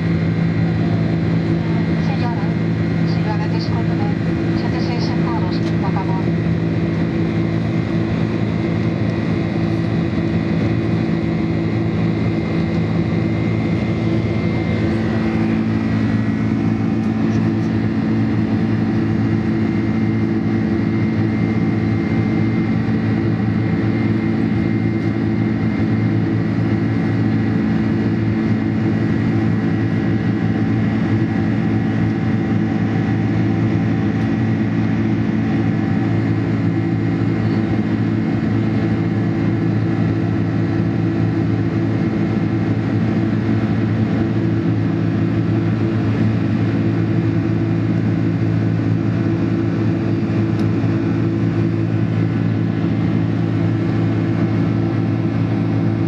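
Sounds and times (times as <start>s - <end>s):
aircraft cabin engine drone: 0.0s - 56.0s.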